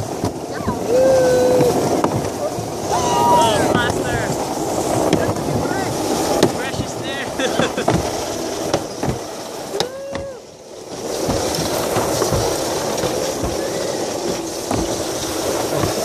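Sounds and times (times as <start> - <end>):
sled rushing rumble on track: 0.0 - 16.0.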